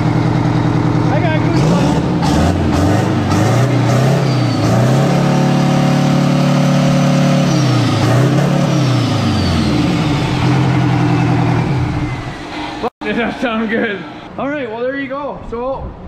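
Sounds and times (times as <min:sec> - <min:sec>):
diesel engine revving: 0:00.0 - 0:14.4.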